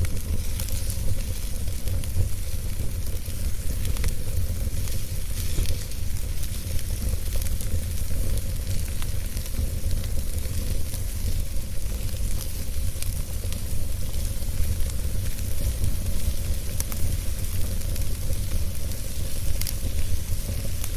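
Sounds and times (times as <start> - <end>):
fire crackling and popping: 0.0 - 20.9.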